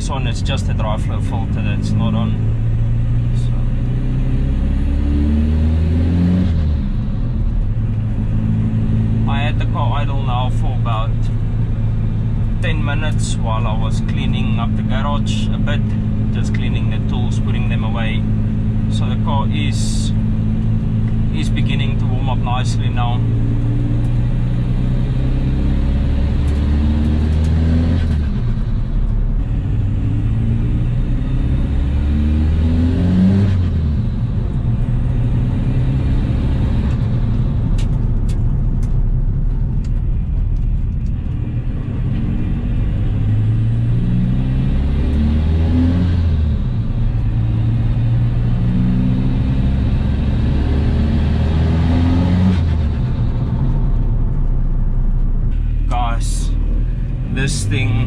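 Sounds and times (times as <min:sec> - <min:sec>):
diesel engine accelerating: 0:00.0 - 0:58.0.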